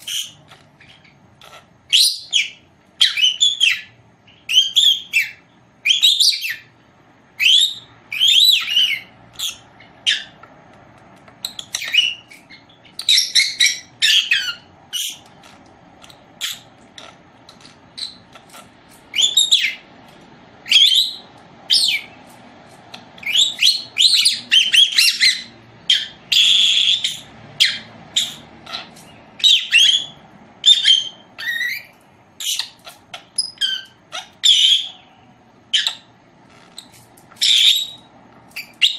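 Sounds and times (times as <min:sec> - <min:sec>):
bird chirping: 0:00.0 - 0:10.6, 0:11.2 - 0:38.9.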